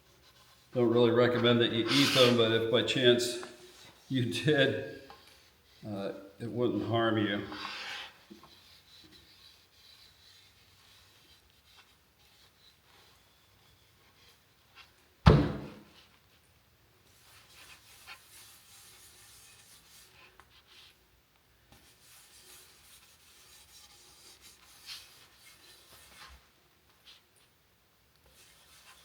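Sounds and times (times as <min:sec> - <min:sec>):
soft rubbing on wood: 0:00.0 - 0:15.2, 0:15.8 - 0:21.1, 0:21.7 - 0:27.6, 0:28.2 - 0:29.0.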